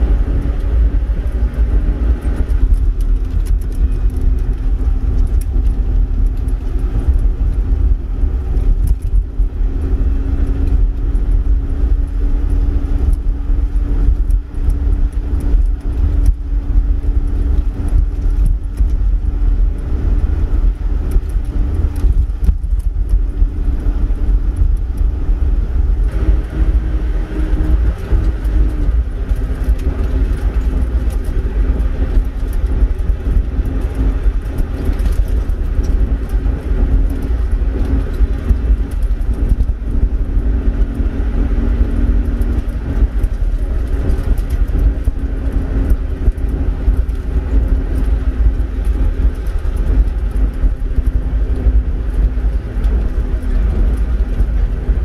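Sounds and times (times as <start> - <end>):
tyres rumbling on gravel: 0.0 - 55.0
vehicle engine drone: 0.0 - 55.0.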